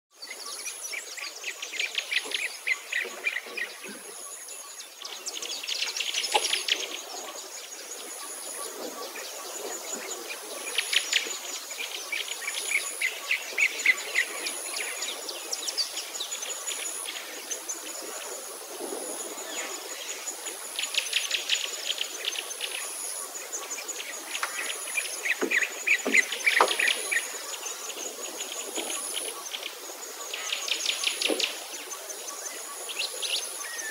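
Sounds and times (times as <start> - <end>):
birds trilling and chirping: 0.2 - 33.9
high pulsing insect call: 0.2 - 33.9.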